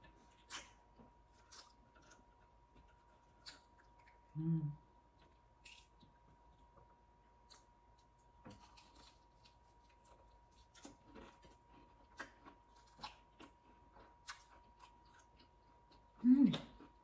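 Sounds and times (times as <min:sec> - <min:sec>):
chewing crunchy food: 0:00.0 - 0:04.4, 0:05.1 - 0:17.0.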